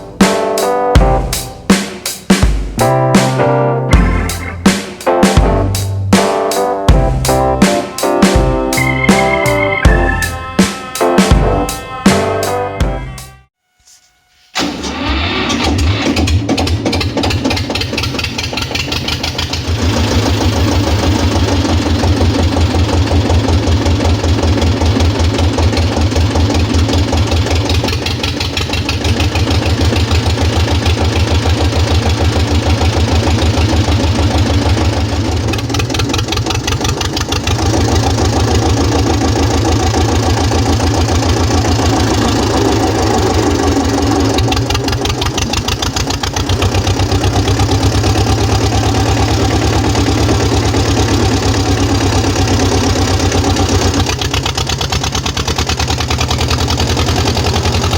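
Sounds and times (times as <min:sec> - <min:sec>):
tractor diesel engine running: 0:02.8 - 0:13.3, 0:14.6 - 0:57.9.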